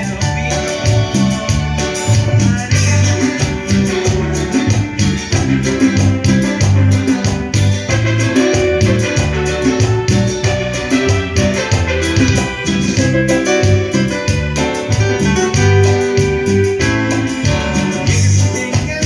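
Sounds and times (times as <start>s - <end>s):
keyboard melody: 0.0s - 19.0s
rhythmic bass line: 0.0s - 19.0s.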